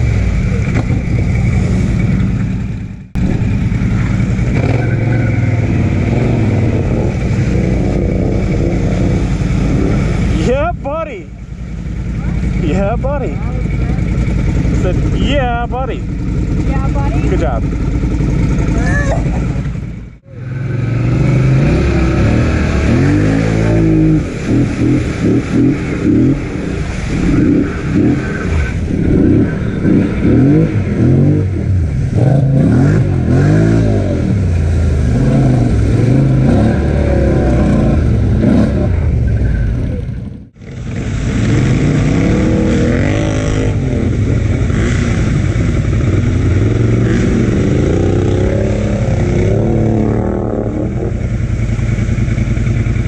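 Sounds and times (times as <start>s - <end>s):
atv engine revving: 0.0s - 53.0s
churning through mud and water: 0.0s - 53.0s.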